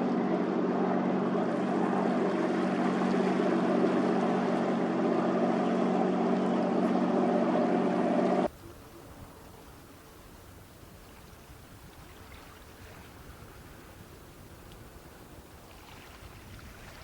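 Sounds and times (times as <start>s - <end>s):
boat engine droning: 0.0s - 17.0s
water rushing: 0.0s - 17.0s.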